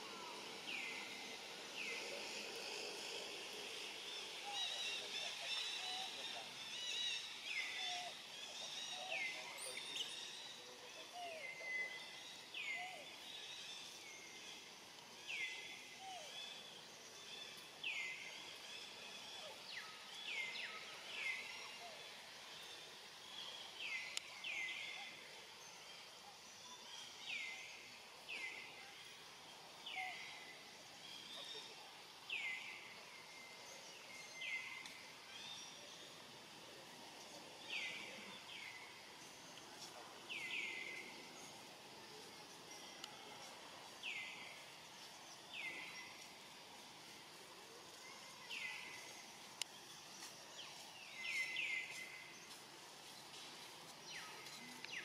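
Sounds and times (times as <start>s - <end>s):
outdoor background hiss: 0.0s - 55.0s.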